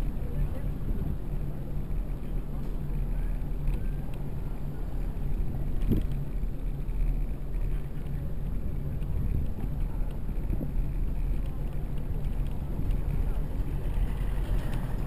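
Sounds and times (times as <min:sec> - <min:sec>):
low rumble of bicycle riding: 0:00.0 - 0:15.0
wind buffeting microphone: 0:00.0 - 0:15.0.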